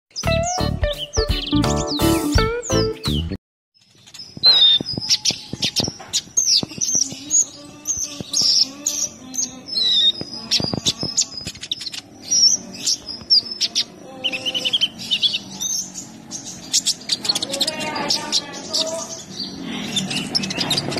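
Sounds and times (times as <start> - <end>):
sunbird singing chirps and trills: 0.2 - 20.9.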